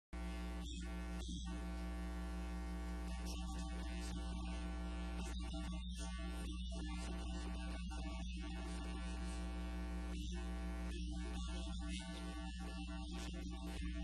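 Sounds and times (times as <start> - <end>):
electrical mains hum with buzz: 0.1 - 14.0.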